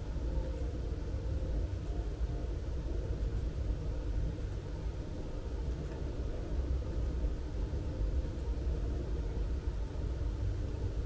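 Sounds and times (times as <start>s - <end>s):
outdoor town ambience rumble: 0.0s - 11.0s.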